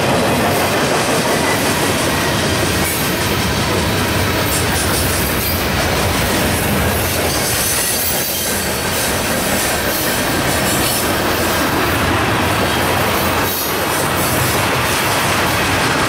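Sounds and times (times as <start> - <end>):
train wheels rumbling and rattling: 0.0 - 16.0.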